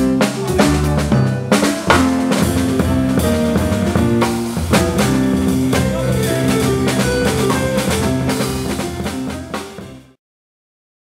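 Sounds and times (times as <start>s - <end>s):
bass line: 0.0s - 10.1s
drum kit: 0.0s - 10.2s
electric keyboard chords: 0.0s - 10.2s.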